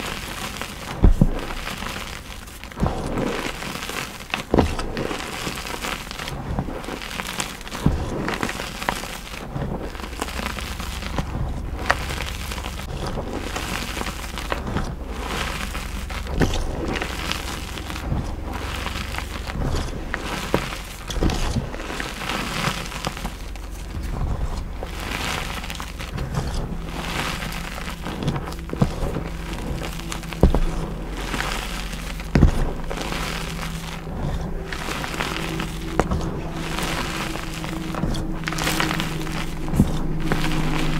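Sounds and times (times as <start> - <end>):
chalk crunching and crumbling: 0.0 - 40.9
low steady hum: 0.0 - 40.9.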